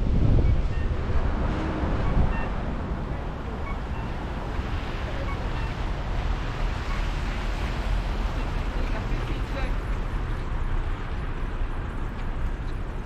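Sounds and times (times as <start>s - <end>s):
tyre and wind road noise: 0.0s - 13.0s.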